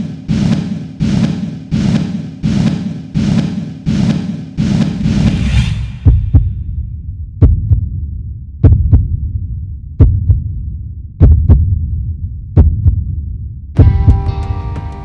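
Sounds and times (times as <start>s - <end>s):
heartbeat thumps: 0.0s - 5.3s, 5.9s - 14.4s.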